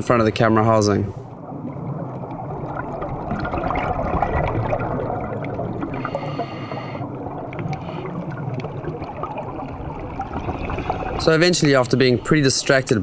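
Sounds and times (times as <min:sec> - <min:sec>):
underwater water rush: 0:00.3 - 0:13.0.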